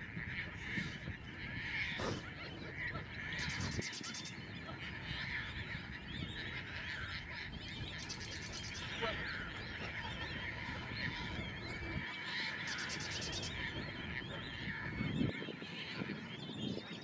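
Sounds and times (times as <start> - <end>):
birds calling and chattering: 0.0 - 17.0
rapid buzzy bird trill: 1.6 - 17.0.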